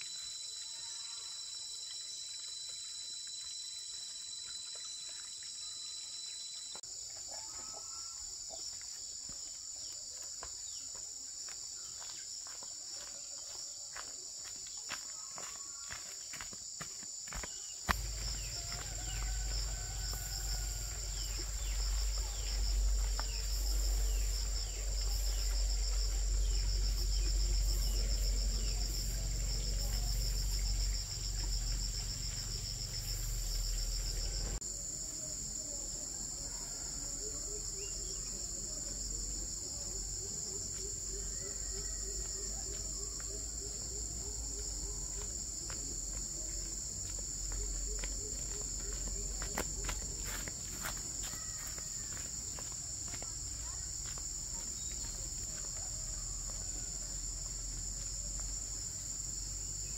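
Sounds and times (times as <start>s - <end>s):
insect chorus trilling: 0.0s - 59.9s.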